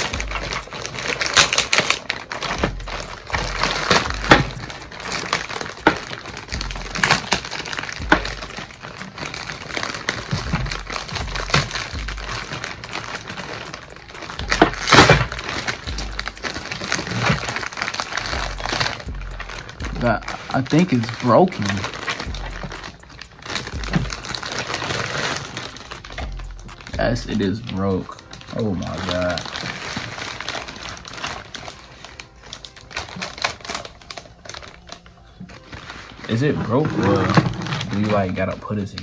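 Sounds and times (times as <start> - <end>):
plastic bag ripping and crinkling: 0.0 - 39.0.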